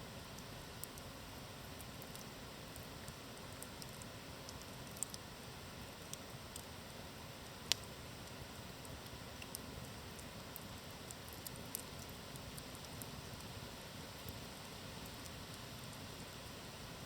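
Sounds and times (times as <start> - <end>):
campfire crackling: 0.0 - 17.0
sharp crack of burning wood: 0.2 - 16.6.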